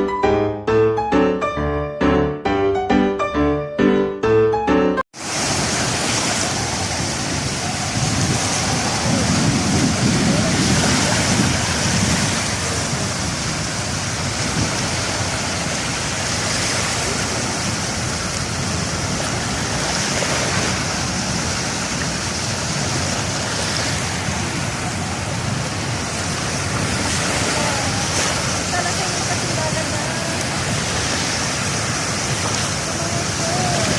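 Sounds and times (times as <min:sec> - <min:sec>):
surf washing on a beach: 0:05.2 - 0:33.9.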